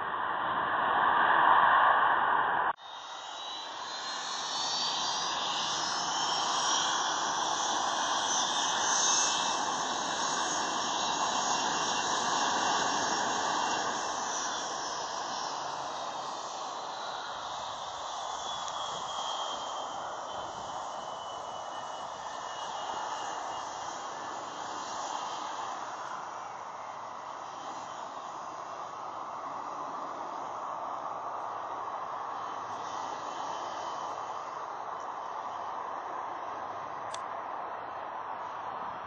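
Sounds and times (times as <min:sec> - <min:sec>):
jet engines roaring with whine: 0:00.0 - 0:39.0.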